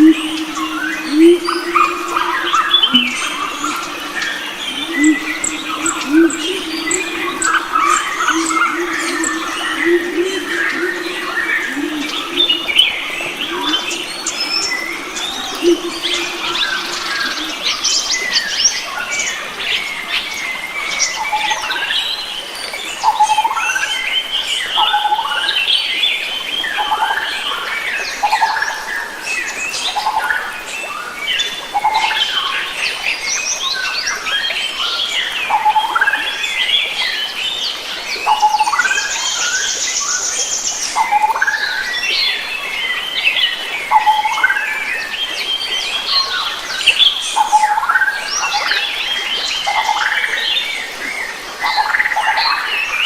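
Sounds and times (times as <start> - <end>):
chorus of birds singing: 0.0 - 53.0.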